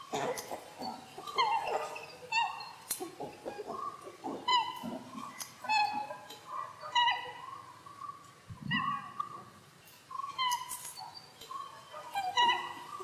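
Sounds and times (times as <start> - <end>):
squeaky animal calls: 0.0 - 7.8, 10.1 - 13.0.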